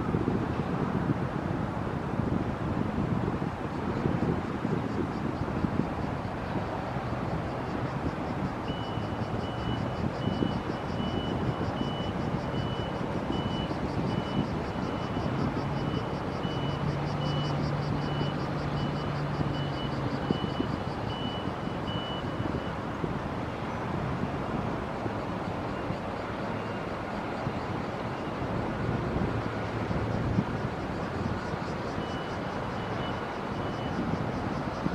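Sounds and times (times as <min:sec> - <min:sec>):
wind on microphone: 0:00.0 - 0:34.9.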